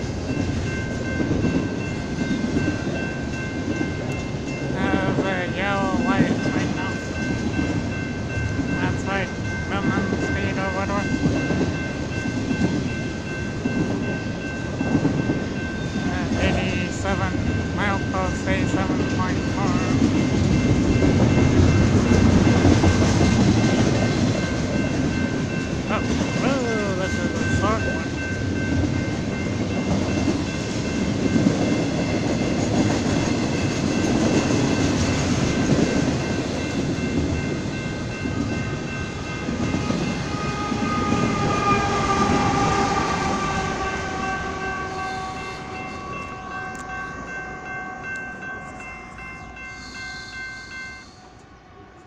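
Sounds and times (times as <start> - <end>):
freight train rumbling and clattering: 0.0 - 50.0
crossing bell ringing: 0.0 - 52.0.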